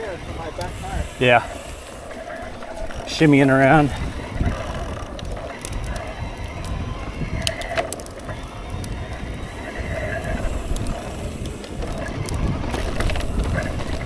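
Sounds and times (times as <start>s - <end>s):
bike clicking and rattling: 0.0s - 14.0s
low rumble of bike tyres: 0.0s - 14.0s.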